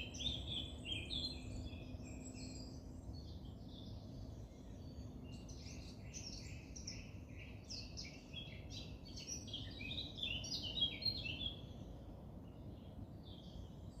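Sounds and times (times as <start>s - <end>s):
low background noise: 0.0s - 14.0s
small birds chirping: 0.0s - 14.0s.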